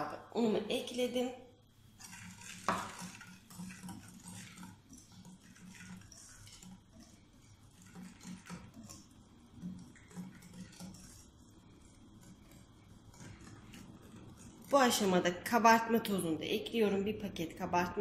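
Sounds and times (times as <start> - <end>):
whisk beating batter in bowl: 1.8 - 18.0.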